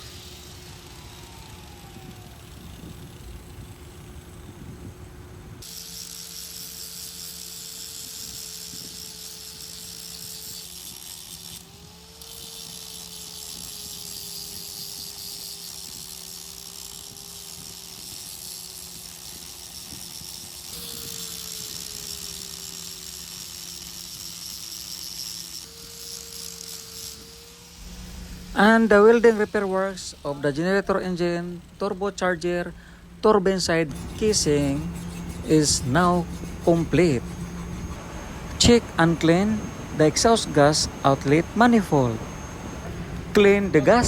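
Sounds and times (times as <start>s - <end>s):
machinery hum with hiss: 0.0s - 44.0s.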